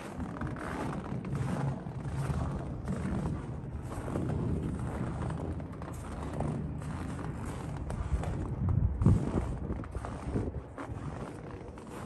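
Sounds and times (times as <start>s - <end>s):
footsteps on snow: 0.0s - 12.0s.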